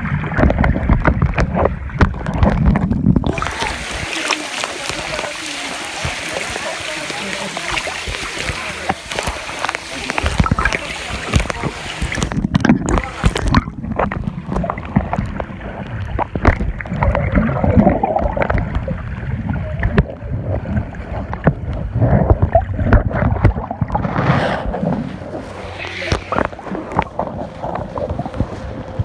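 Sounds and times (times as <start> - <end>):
bubbles: 0.0 - 29.0
underwater sloshing and gurgling: 0.0 - 29.0.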